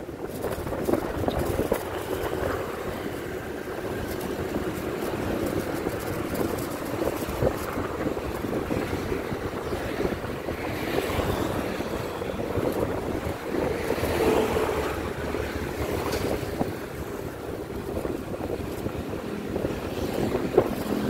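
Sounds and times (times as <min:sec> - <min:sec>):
road traffic noise: 0:00.0 - 0:21.0
wind buffeting microphone: 0:00.0 - 0:21.0.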